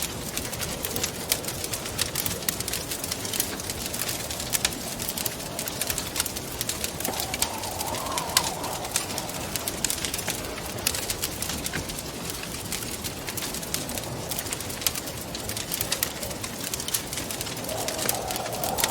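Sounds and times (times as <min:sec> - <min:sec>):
hollow wind: 0:00.0 - 0:18.9
wood fire crackling: 0:00.0 - 0:18.9.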